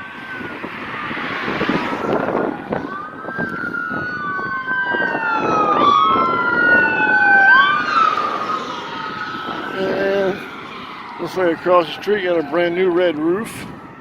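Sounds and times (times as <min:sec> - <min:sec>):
emergency vehicle siren wailing: 0:00.0 - 0:14.0
low road rumble: 0:00.0 - 0:14.0.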